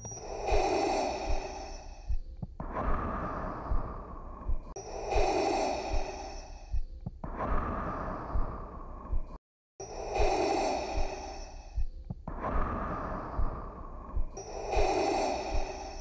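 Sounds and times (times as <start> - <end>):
mechanical respirator breathing: 0.0 - 8.7, 9.8 - 16.0.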